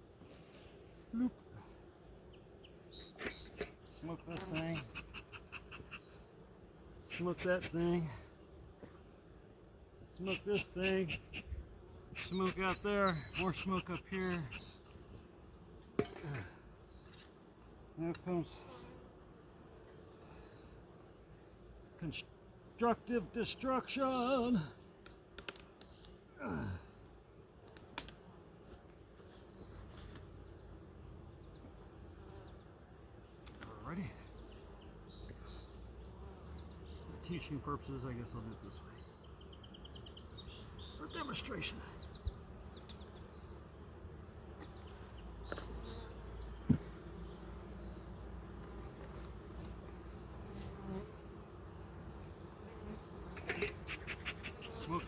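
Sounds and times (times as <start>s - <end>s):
honeybees humming: 0.0s - 55.0s.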